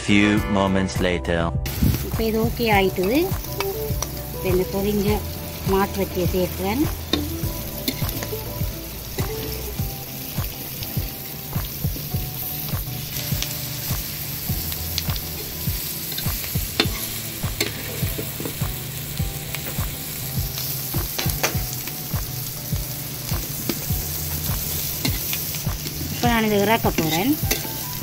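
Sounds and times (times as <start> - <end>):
food sizzling: 1.7 - 28.0.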